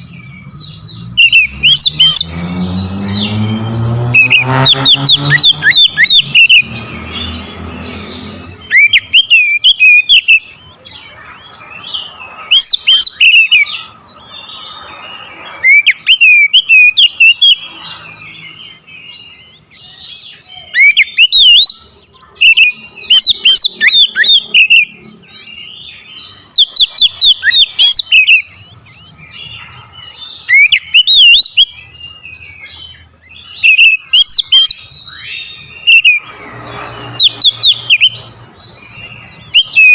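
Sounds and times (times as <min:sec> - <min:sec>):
bird chatter: 0:00.0 - 0:39.9
bird singing whistled notes: 0:00.0 - 0:39.9.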